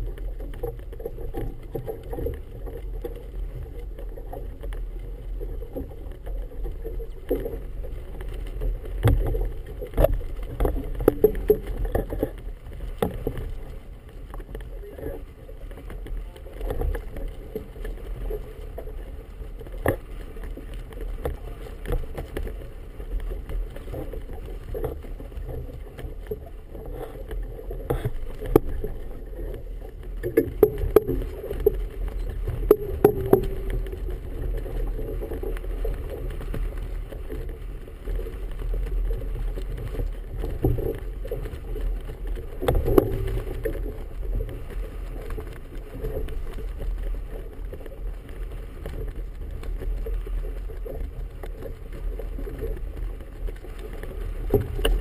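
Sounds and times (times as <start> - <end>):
choppy water around hull: 0.0 - 55.0
wind rumble: 0.0 - 55.0.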